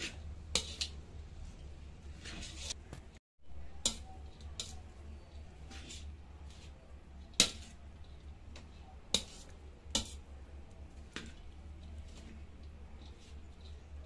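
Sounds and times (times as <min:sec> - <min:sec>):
spatula scraping a wok: 0:00.0 - 0:03.0, 0:03.6 - 0:14.0.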